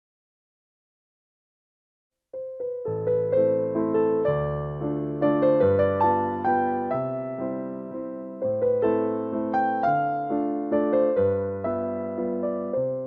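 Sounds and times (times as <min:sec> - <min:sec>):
gentle piano melody: 0:02.4 - 0:13.0.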